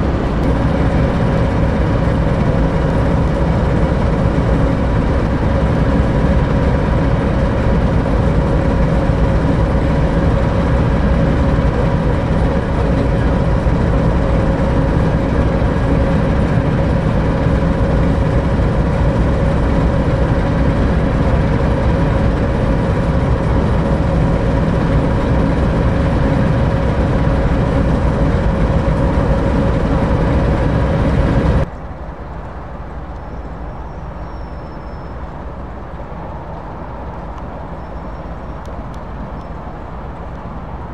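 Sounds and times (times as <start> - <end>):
diesel engine idling: 0.0 - 40.9
distant engine hum: 0.0 - 40.9.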